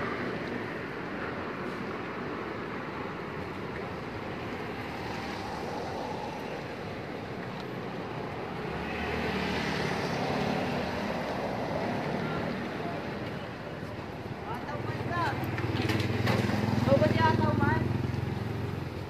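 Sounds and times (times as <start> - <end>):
street traffic noise: 0.0 - 19.0
vehicle engine nearby: 0.0 - 19.0.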